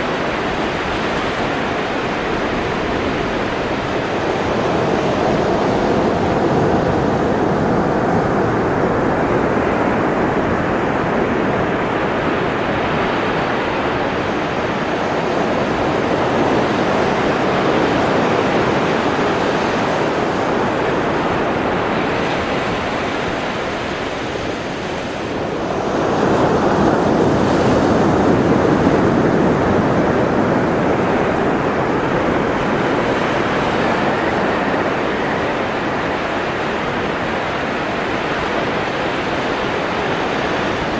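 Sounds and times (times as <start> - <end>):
ocean surf washing: 0.0 - 40.9.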